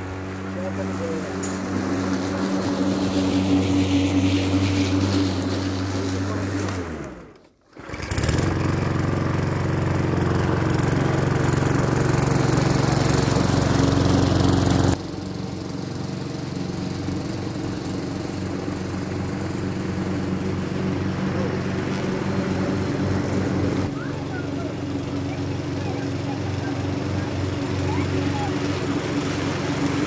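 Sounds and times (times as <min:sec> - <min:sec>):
lawn mower running: 0:00.0 - 0:30.0.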